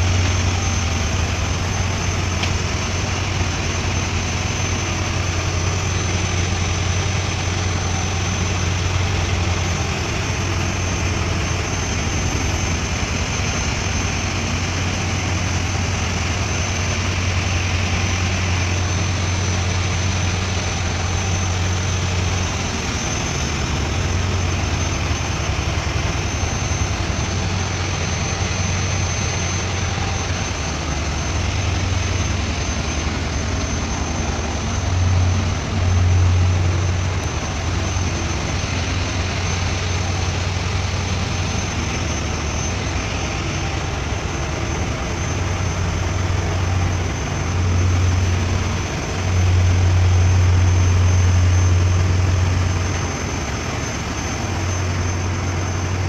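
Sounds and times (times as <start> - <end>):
engine room machinery low hum: 0.0 - 56.0
steady high whine: 0.0 - 56.0.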